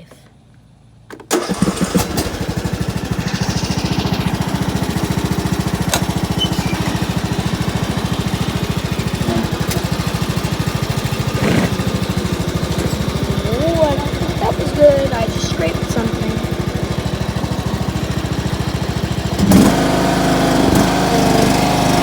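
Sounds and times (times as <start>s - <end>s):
lawn mower engine chugging: 0.0s - 22.0s.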